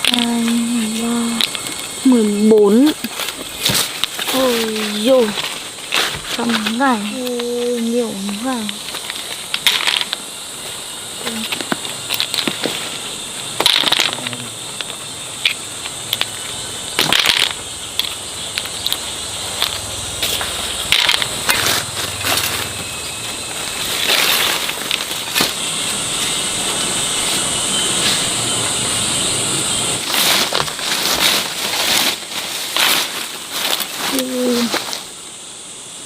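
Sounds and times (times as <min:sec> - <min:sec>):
rustling and crunching: 0:00.0 - 0:29.0, 0:29.9 - 0:35.2
steady high hiss: 0:00.0 - 0:36.0.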